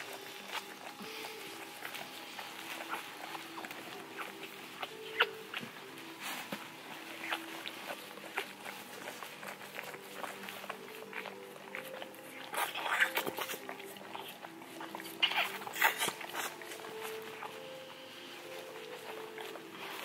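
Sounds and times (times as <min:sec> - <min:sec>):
soft background music: 0:00.0 - 0:20.0
towel rubbing and rustling: 0:00.0 - 0:20.0.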